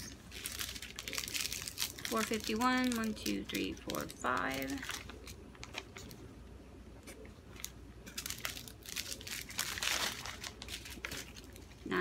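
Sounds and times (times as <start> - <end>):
plastic bags crinkling: 0.0 - 6.2, 7.5 - 12.0.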